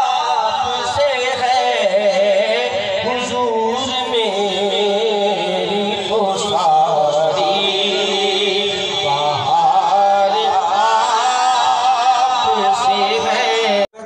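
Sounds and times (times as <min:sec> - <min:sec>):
person chanting in sung lines: 0:00.0 - 0:13.9.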